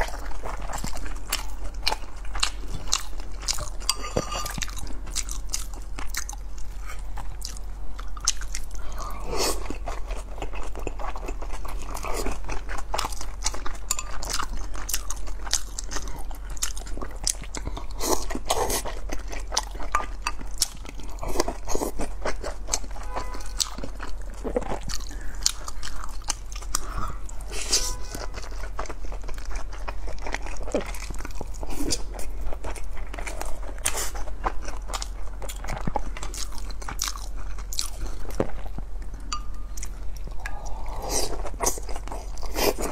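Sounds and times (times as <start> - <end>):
person chewing: 0.0 - 42.9.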